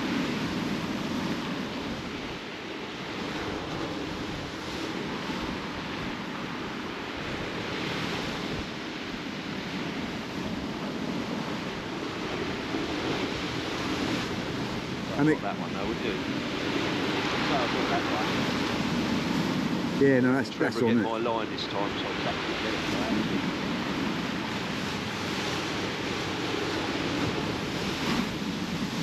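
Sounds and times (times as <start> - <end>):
surf on shingle beach: 0.0 - 29.0
wind: 0.0 - 29.0.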